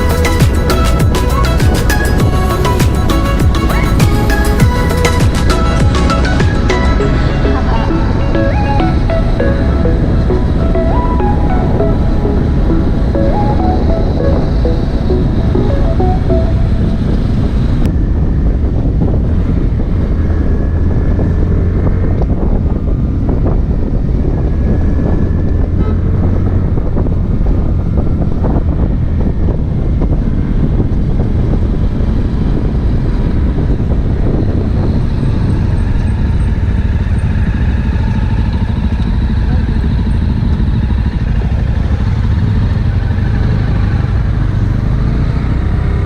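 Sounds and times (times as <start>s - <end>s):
motorcycle engine running: 0.0s - 8.3s, 16.6s - 46.0s
wind rushing on microphone: 0.0s - 46.0s.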